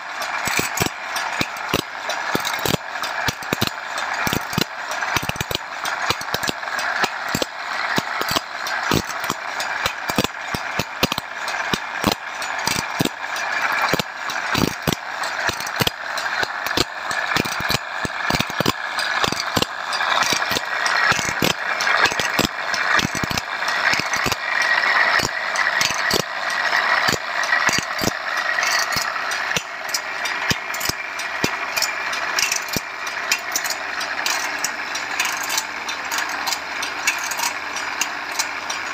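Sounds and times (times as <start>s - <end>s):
abrasive wheel grinding saw blade: 0.0s - 38.9s
feed mechanism clicking: 0.0s - 38.9s.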